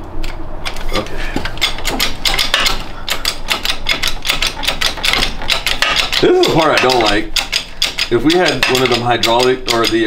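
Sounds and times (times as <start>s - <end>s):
bottle jack pumping metallic clicks: 1.5s - 10.0s.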